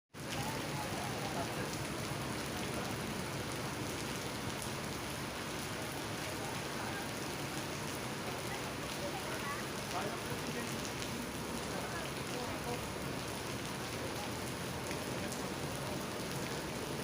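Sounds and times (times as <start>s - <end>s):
raindrop ticks: 0.2s - 17.0s
heavy rain hissing: 0.3s - 17.0s.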